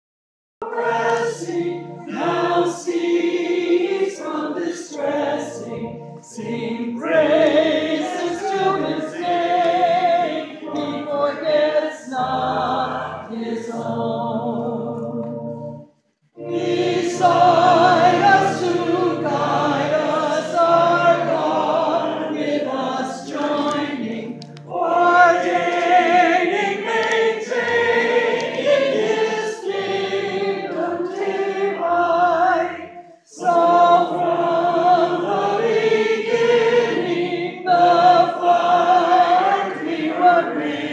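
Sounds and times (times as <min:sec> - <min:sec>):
congregation singing a hymn: 0:00.6 - 0:40.9.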